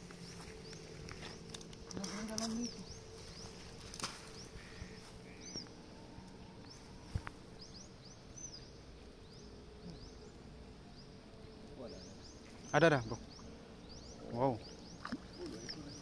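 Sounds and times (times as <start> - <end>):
faint steady hum: 0.0 - 16.0
small birds chirping: 0.0 - 16.0.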